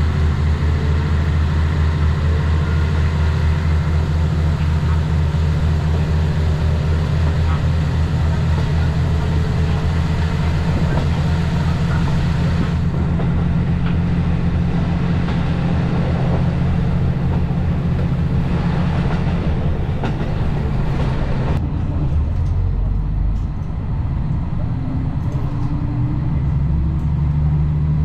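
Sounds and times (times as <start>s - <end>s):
rail noise: 0.0s - 28.0s
train running drone: 0.0s - 28.0s.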